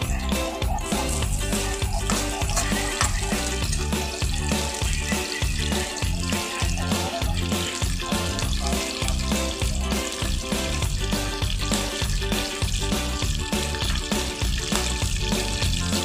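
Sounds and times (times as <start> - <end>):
background music: 0.0 - 16.0
oil sizzling in a wok: 0.0 - 16.0.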